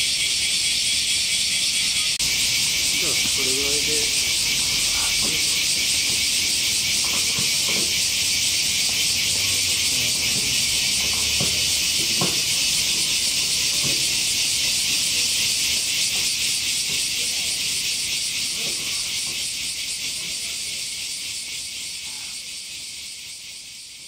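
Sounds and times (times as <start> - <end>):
cicadas chorus: 0.0 - 24.0.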